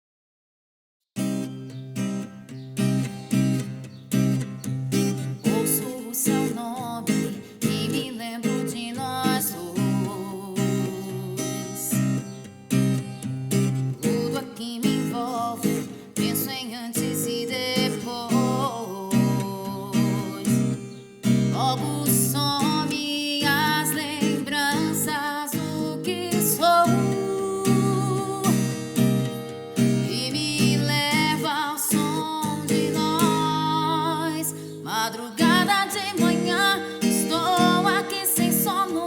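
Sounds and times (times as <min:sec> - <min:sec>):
acoustic guitar: 0:01.2 - 0:39.0
woman singing with vibrato: 0:05.4 - 0:12.1, 0:14.0 - 0:39.0.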